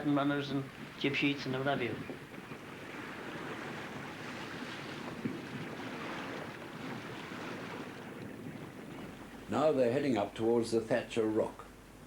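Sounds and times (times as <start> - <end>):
wind and sea water rushing: 0.0 - 12.0.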